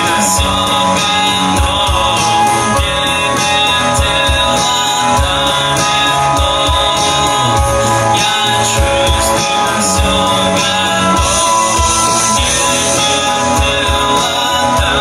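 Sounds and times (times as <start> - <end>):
electric guitar: 0.0 - 15.0
harmonica through microphone: 0.0 - 15.0
steady low beat: 0.0 - 15.0.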